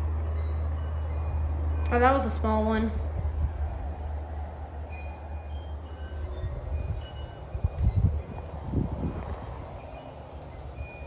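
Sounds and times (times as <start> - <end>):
storm wind gusting on microphone: 0.0 - 11.0
wind chime tinkles: 0.0 - 11.0.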